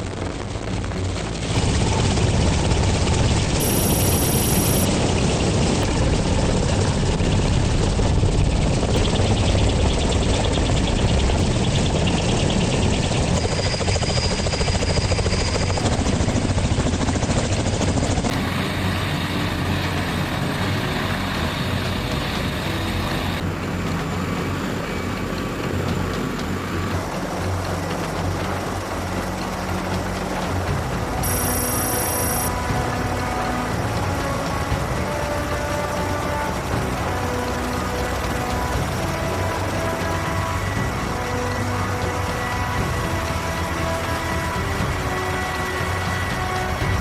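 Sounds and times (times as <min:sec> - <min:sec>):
helicopter rotors beating: 0:00.0 - 0:47.0.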